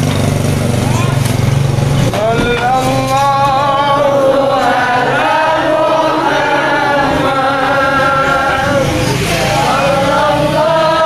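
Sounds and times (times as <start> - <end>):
group chanting devotional song: 2.0 - 11.0.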